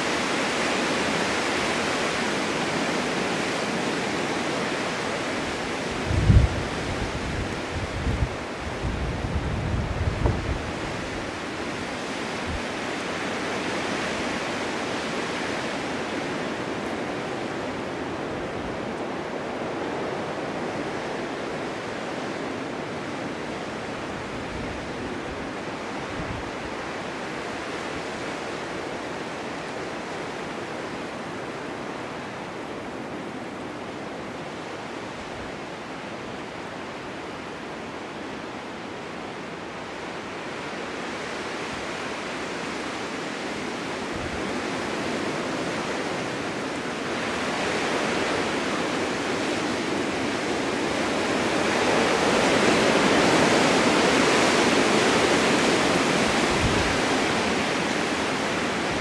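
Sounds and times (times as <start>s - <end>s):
snowstorm wind blowing: 0.0s - 59.0s.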